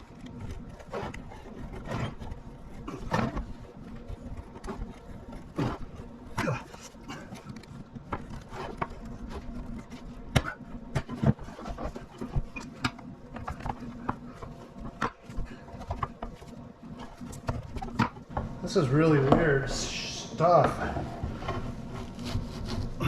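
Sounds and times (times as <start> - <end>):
clicks knocks and scrapes of cable: 0.0 - 19.5
steady low hum: 0.0 - 23.0.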